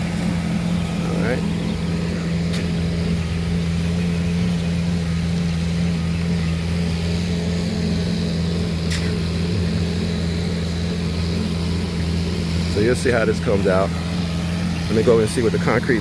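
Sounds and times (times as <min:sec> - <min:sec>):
concrete pump engine droning: 0:00.0 - 0:16.0.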